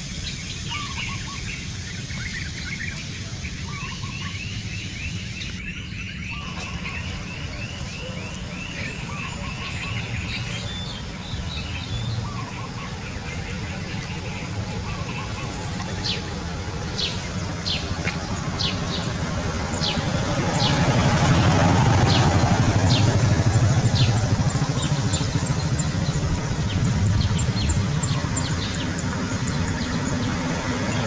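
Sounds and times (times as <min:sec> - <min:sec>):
bird chirping: 0:00.0 - 0:31.0
motor vehicle rumble: 0:00.0 - 0:31.0.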